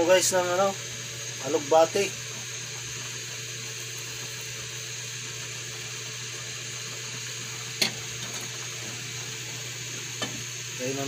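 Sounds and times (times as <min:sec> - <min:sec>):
broth boiling in a pan: 0:00.0 - 0:11.0.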